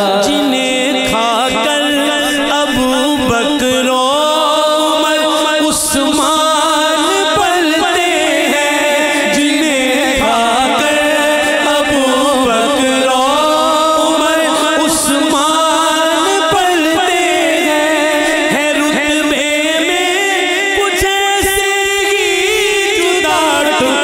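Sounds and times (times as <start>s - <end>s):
man singing into microphone: 0.0s - 24.0s.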